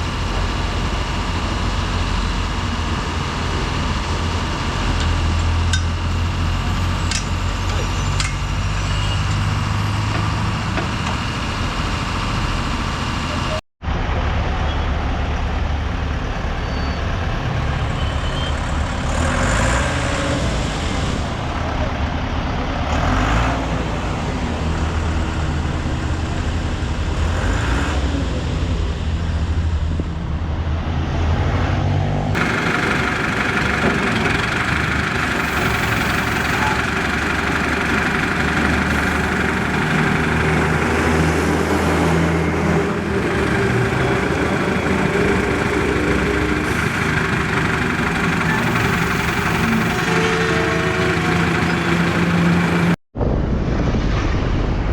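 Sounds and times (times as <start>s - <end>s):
vehicle engine hum: 0.0s - 53.0s
traffic and road noise: 0.0s - 54.9s.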